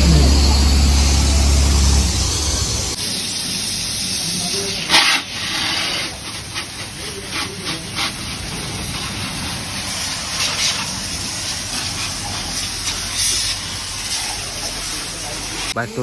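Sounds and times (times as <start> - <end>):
pressure washer water jet hissing: 0.0 - 16.0.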